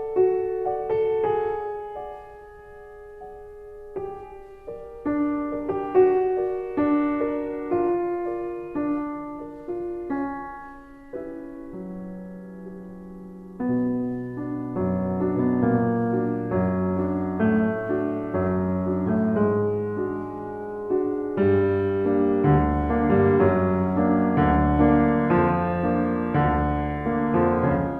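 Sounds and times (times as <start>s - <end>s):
slow solo piano: 0.0s - 27.9s.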